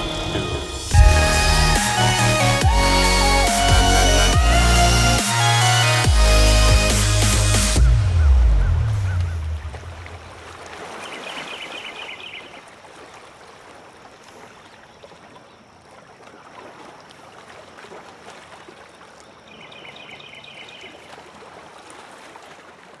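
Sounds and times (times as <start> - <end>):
lake water washing: 0.0 - 23.0.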